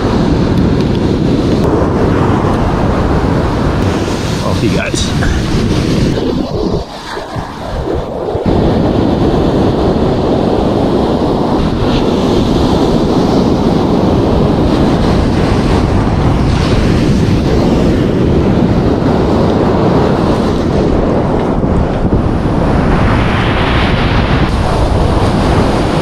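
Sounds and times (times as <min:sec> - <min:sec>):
surf breaking on beach: 0:00.0 - 0:26.0
wind buffeting microphone: 0:00.0 - 0:26.0.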